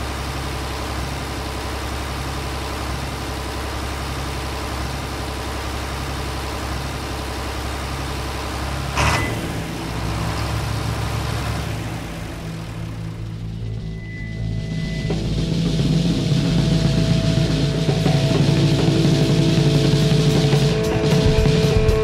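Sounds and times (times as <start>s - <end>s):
bike rumbling and rattling: 0.0s - 22.0s.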